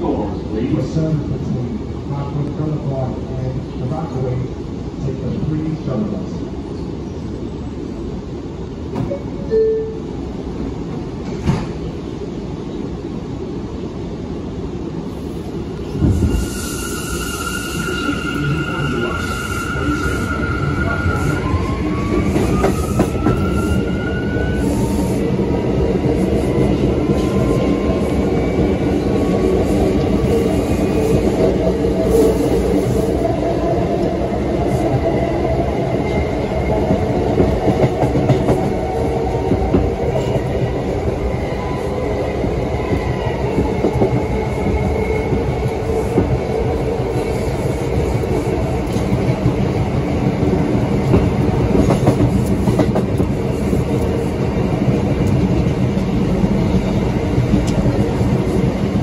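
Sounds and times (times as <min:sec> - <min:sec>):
subway motor whine: 0:05.9 - 0:59.0.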